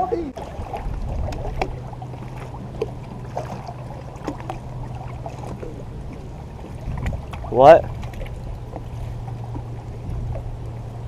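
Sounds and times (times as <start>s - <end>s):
low motor hum: 0.0s - 11.0s
water lapping and splashing: 0.0s - 11.0s.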